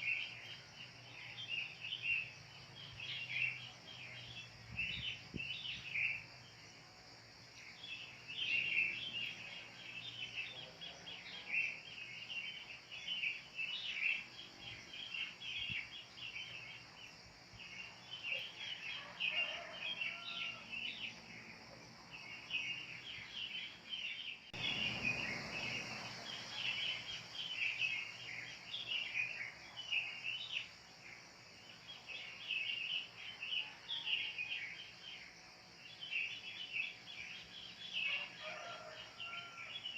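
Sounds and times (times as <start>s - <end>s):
high insect hiss: 0.0s - 39.9s.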